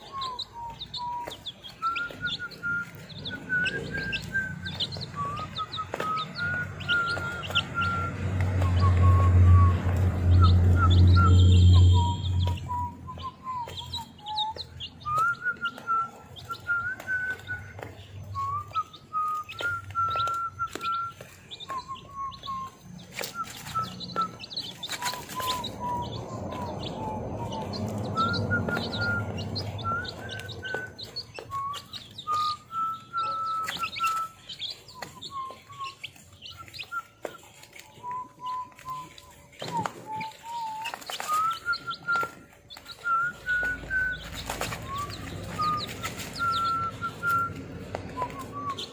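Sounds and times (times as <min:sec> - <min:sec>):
chicks pecking taps: 0:00.0 - 0:48.9
chicks peeping: 0:00.0 - 0:48.9
short whistled notes: 0:00.0 - 0:48.9.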